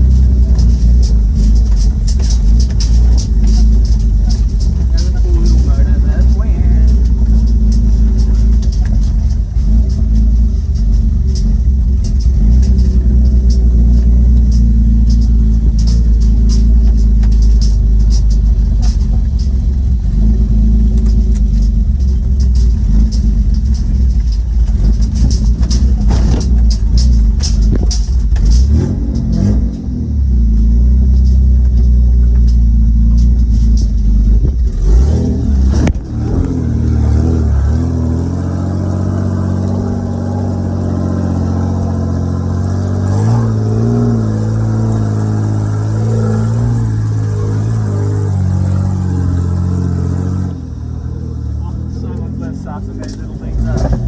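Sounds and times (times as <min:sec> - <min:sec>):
deep engine exhaust rumble: 0:00.0 - 0:54.0.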